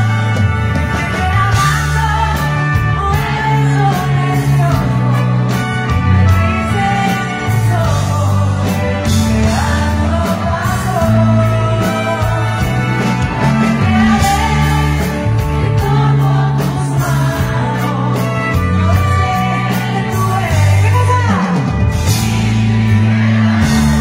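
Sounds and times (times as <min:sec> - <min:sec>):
held bass notes: 0:00.0 - 0:24.0
live band music: 0:00.0 - 0:24.0
person singing: 0:00.0 - 0:24.0.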